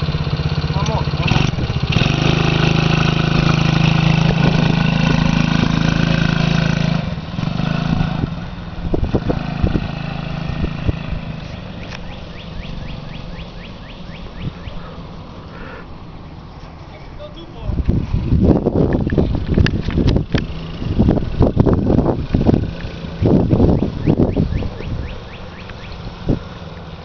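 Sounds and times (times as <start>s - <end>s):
quad engine running: 0.0s - 16.0s, 17.7s - 27.0s.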